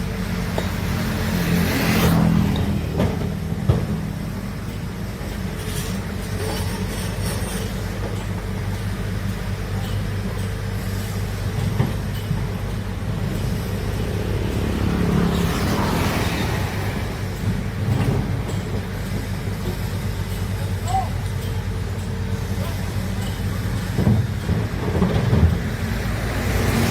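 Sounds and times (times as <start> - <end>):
diesel excavator engine running: 0.0 - 26.9.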